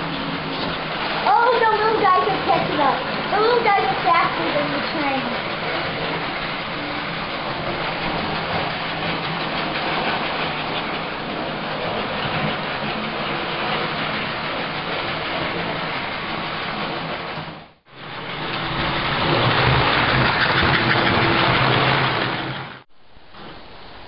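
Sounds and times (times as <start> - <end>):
model train wheels rattling: 0.0 - 22.8.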